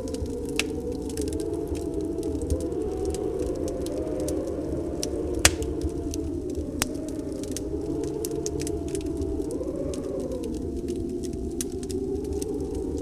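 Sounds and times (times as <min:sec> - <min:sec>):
faint wavering wind whistle: 0:00.0 - 0:13.0
storm wind rushing: 0:00.0 - 0:13.0
wood fire crackling and popping: 0:00.0 - 0:13.0.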